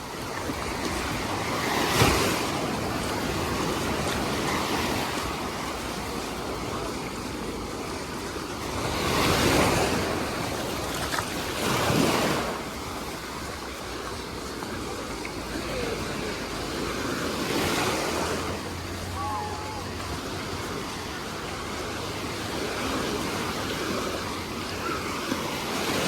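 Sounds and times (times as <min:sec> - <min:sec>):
sea waves washing onto beach: 0:00.0 - 0:26.0.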